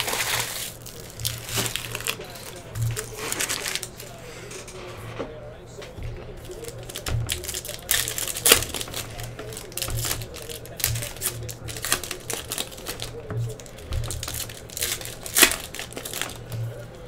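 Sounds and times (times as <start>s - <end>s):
foil wrappers crinkling: 0.0s - 17.0s.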